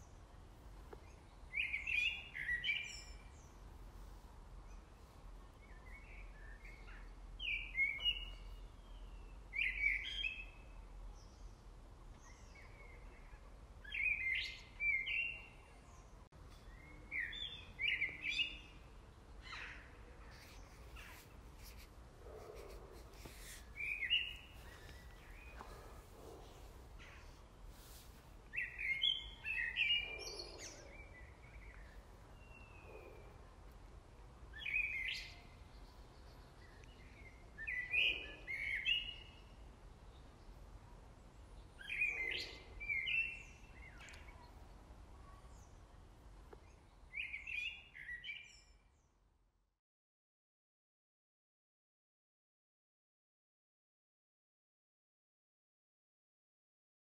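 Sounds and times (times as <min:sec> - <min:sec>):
songbird singing: 0:00.0 - 0:49.3.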